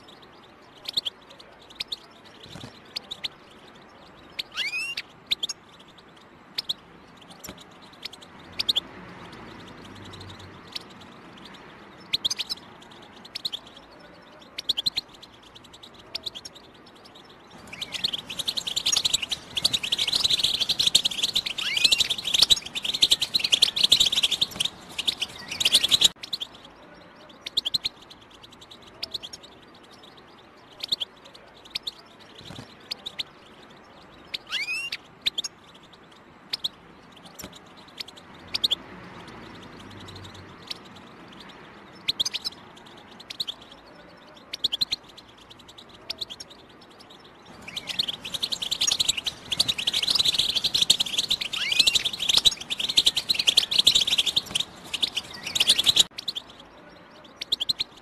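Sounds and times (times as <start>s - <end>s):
finch chirping and twittering: 0.0s - 58.0s.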